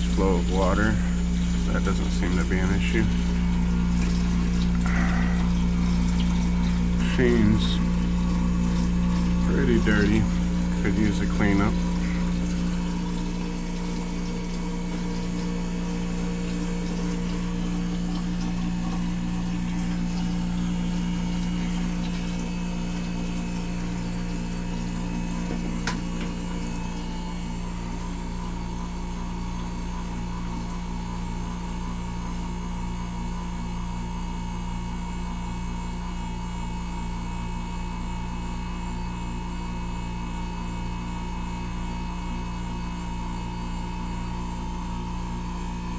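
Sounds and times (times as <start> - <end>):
compressor humming: 0.0 - 45.9
water pump circulating water: 0.0 - 45.9.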